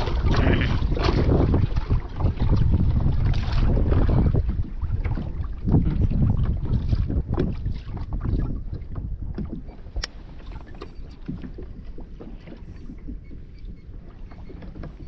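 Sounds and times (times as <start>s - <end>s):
water lapping against kayak hull: 0.0s - 15.0s
wind rumbling on microphone: 0.0s - 15.0s.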